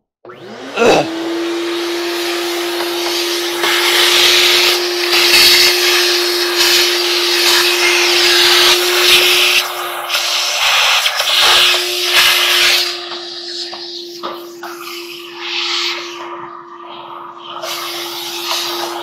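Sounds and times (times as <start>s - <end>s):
vacuum cleaner suction hiss: 0.3s - 19.0s
vacuum motor hum: 0.3s - 19.0s.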